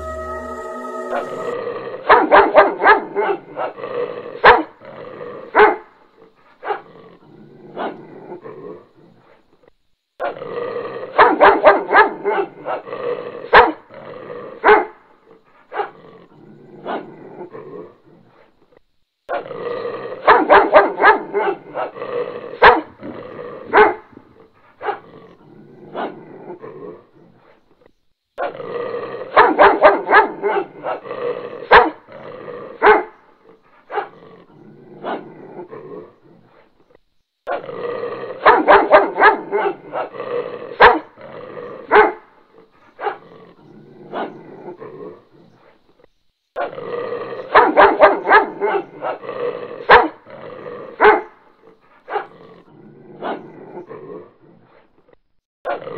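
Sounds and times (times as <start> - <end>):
dog barking and growling: 0.0 - 55.9.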